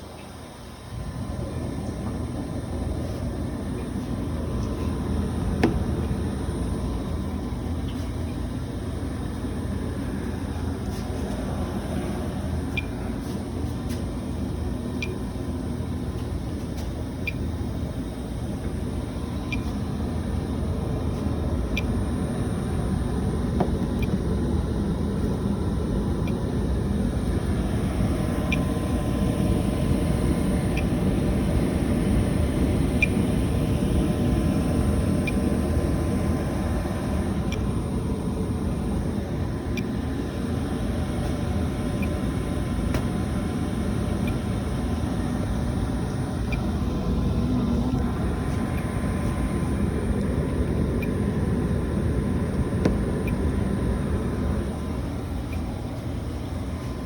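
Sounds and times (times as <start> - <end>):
gas furnace rumbling: 0.0 - 57.0.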